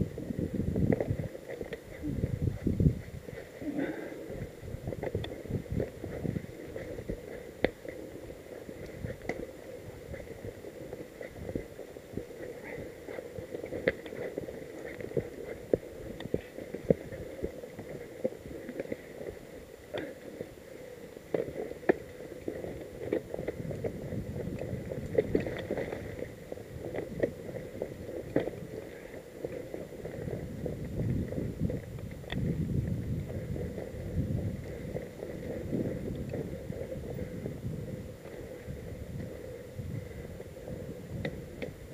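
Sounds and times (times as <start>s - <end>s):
bike rattling over dirt trail: 0.0s - 41.9s
wind rumble on microphone: 0.0s - 41.9s.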